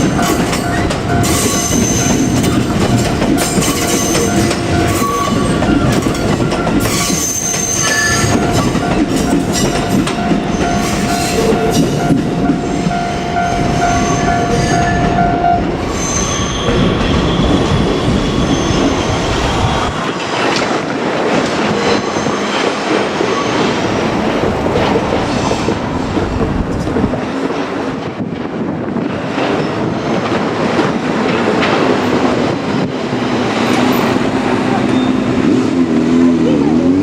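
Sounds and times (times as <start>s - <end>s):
rail-joint clacking: 0.0s - 35.8s
deep train rumble: 0.0s - 37.0s.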